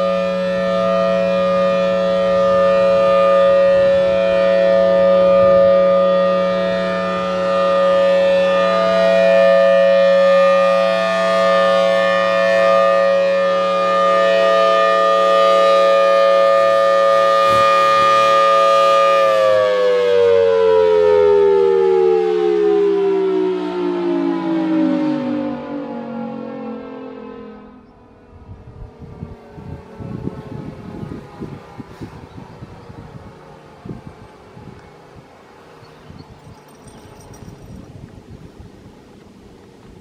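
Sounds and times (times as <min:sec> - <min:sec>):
civil defense siren: 0:00.0 - 0:40.0.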